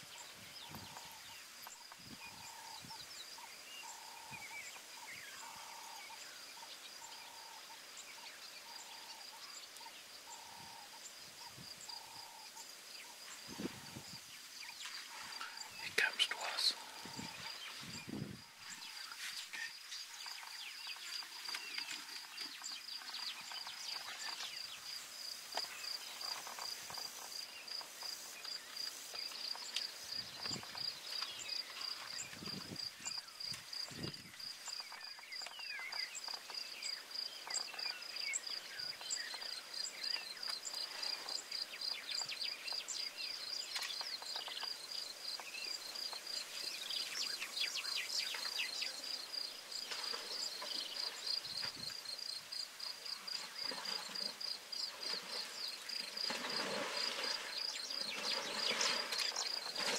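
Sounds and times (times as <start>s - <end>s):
bird calls: 0.0s - 52.3s
insect chirping: 0.0s - 59.9s.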